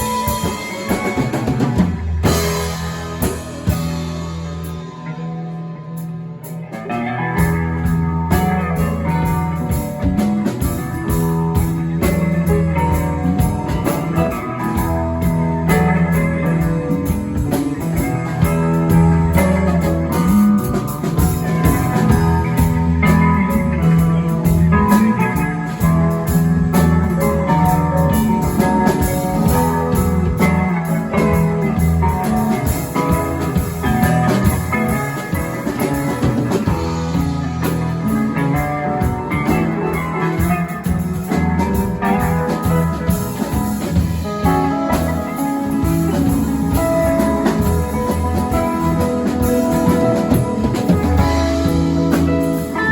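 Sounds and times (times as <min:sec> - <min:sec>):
blues-rock music: 0:00.0 - 0:52.9.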